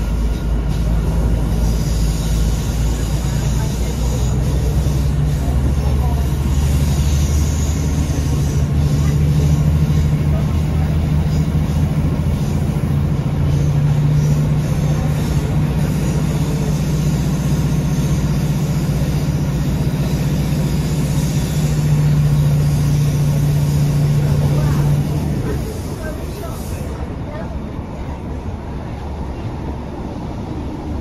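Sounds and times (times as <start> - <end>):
diesel engine drone: 0.0 - 31.0
wheel and rail noise: 0.0 - 31.0.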